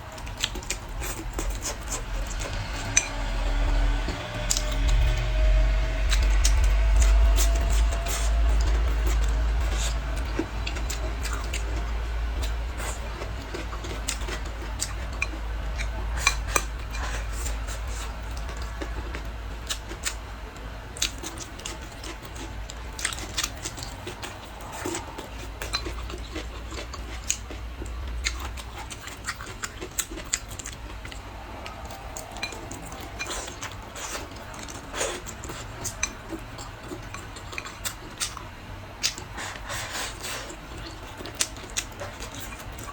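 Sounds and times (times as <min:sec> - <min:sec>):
low steady hum: 0:00.0 - 0:42.9
utensils clinking against dishes: 0:00.2 - 0:05.2, 0:06.1 - 0:20.2, 0:21.0 - 0:38.4, 0:39.0 - 0:42.9.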